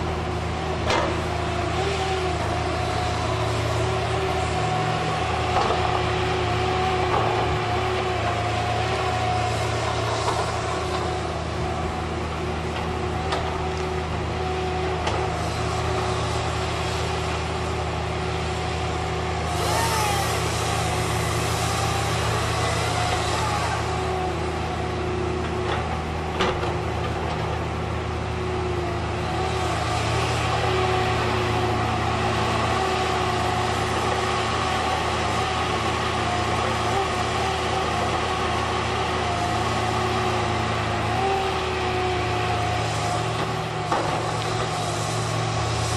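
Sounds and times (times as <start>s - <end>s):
heavy diesel engines running: 0.0s - 45.9s.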